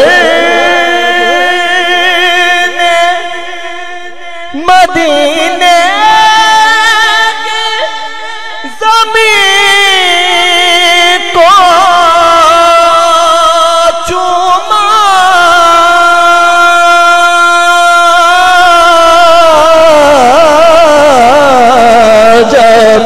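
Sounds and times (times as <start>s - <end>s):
man singing: 0.0s - 23.0s.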